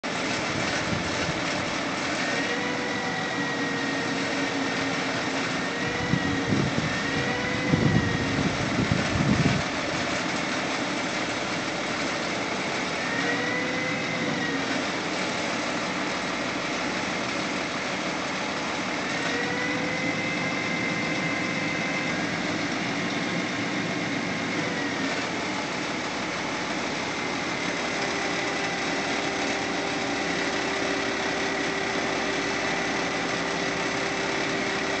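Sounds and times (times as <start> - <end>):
hydraulic crane whine: 0.0 - 35.0
truck engine running: 0.0 - 35.0.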